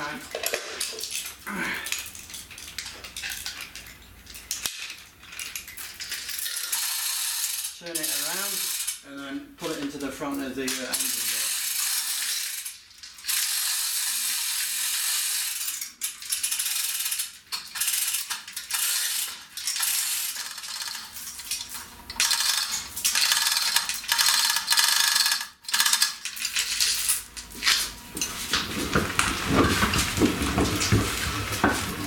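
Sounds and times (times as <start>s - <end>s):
chain hoist clattering: 0.0s - 28.3s.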